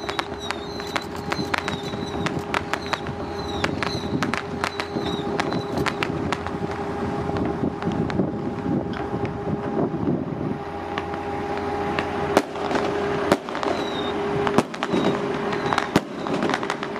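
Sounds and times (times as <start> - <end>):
firecrackers popping and banging: 0.0 - 9.8, 10.9 - 16.9
steady low hum: 0.0 - 16.9.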